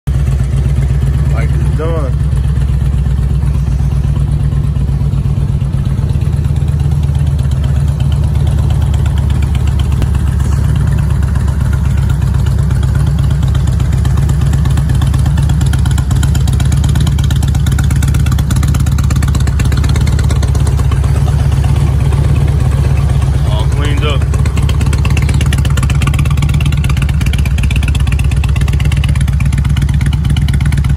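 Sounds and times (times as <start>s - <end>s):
motorcycle engine idling: 0.1s - 30.9s.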